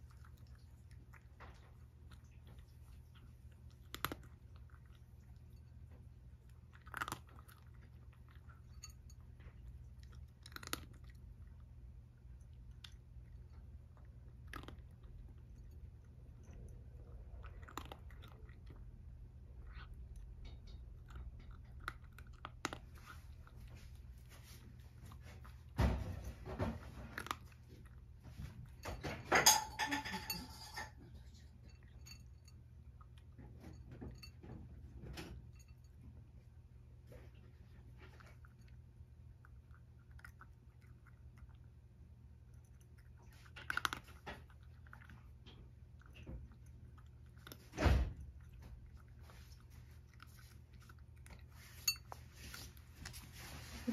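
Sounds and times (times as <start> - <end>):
cat crunching kibble: 0.0 - 34.0, 34.7 - 53.9.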